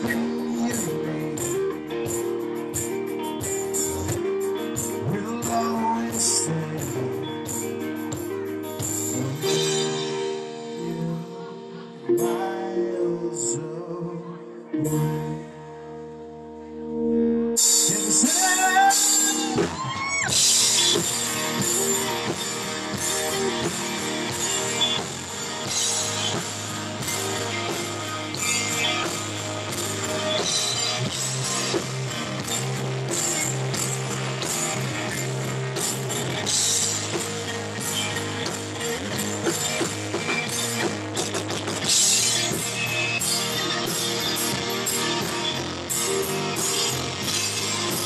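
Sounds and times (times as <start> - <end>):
drum kit: 0.0 - 12.8, 17.6 - 48.0
electric guitars: 0.0 - 48.0.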